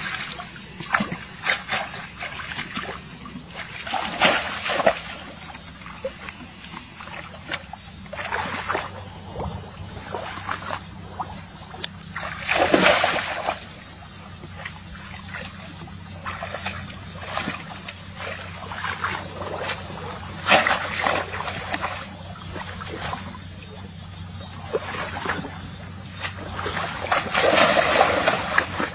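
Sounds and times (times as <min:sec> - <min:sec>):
muddy water splashing: 0:00.0 - 0:28.9.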